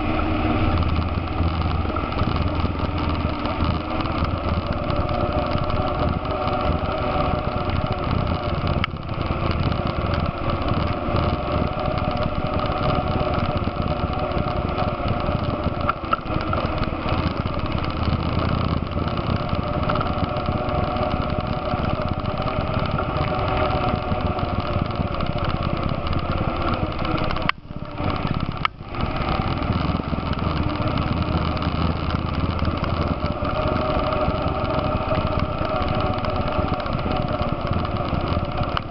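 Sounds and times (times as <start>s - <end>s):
atv engine running: 0.0s - 38.9s
rough trail noise: 0.0s - 38.9s.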